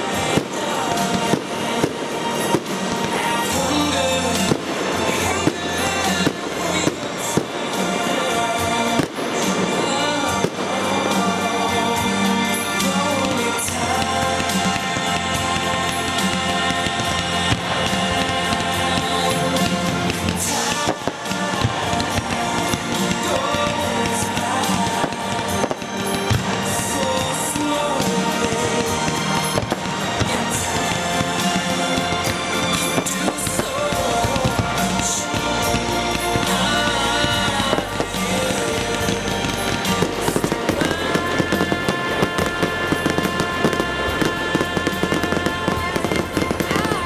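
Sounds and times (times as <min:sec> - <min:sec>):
fireworks bursting: 0:00.0 - 0:47.0
music: 0:00.0 - 0:47.0.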